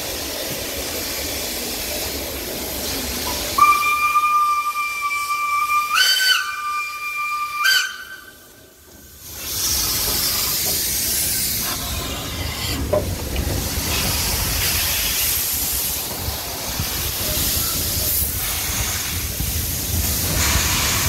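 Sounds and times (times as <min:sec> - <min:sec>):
low rumble of train passing: 0:00.0 - 0:21.0
steam locomotive hissing: 0:00.0 - 0:21.0.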